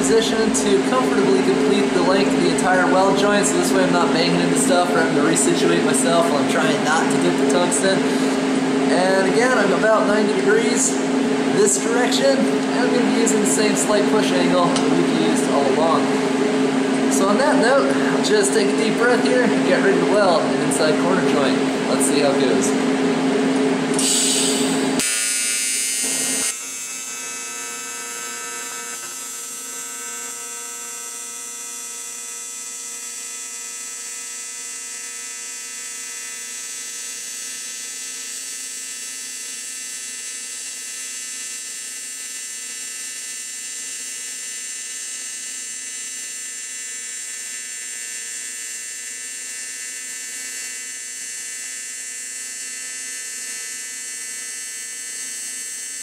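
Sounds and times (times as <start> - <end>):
welding arc buzz: 0.0 - 56.0.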